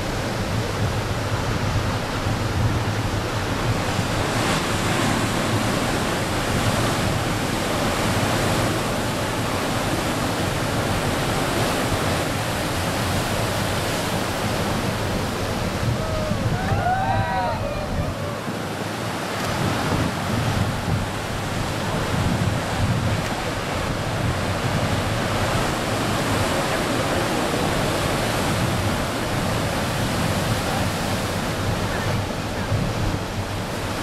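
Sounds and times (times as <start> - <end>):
ocean surf roaring: 0.0 - 34.0
wind rumbling on microphone: 0.0 - 34.0.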